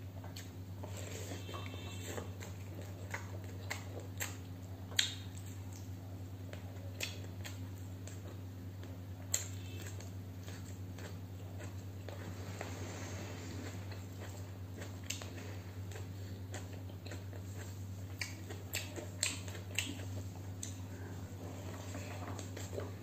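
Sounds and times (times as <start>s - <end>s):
steady low hum: 0.0s - 23.0s
chewing and mouth clicks: 0.1s - 23.0s.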